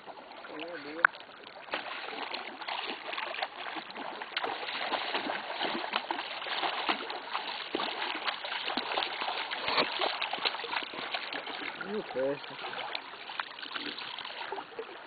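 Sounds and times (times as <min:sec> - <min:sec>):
fish splashing at surface: 0:01.4 - 0:14.9.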